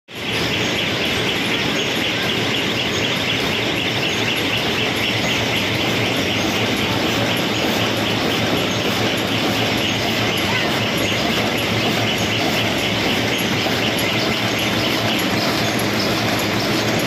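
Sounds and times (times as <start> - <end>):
machine rhythmic mechanical clatter: 0.1 - 17.0.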